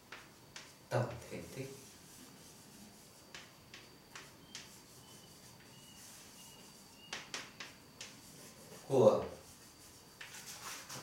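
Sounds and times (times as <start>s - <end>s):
chalk scratching on chalkboard: 0.1s - 11.0s.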